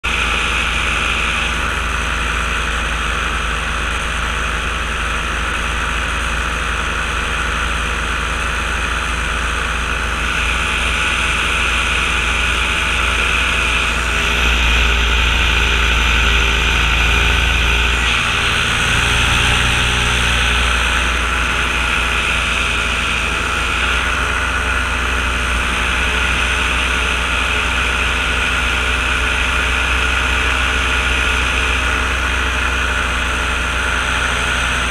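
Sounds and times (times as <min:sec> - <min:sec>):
paramotor engine droning: 0:00.0 - 0:34.9.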